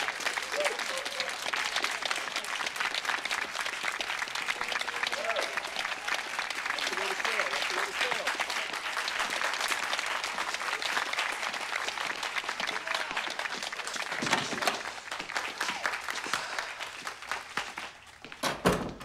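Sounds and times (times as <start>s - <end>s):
people applauding: 0.0s - 18.5s.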